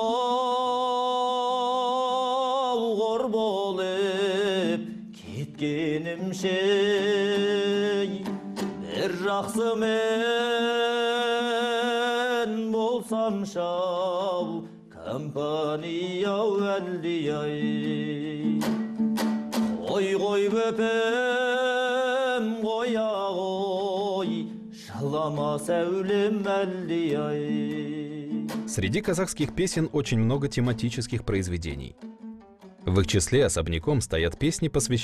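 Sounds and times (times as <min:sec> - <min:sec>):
person singing with vibrato: 0:00.0 - 0:30.3
plucked strings: 0:02.9 - 0:35.0.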